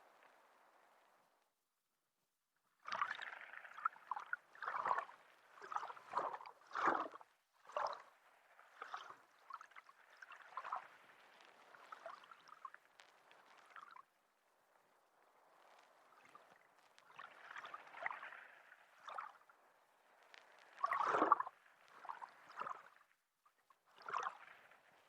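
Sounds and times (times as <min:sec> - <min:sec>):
underwater bubbling and gurgling: 0:02.9 - 0:14.1, 0:15.4 - 0:25.0.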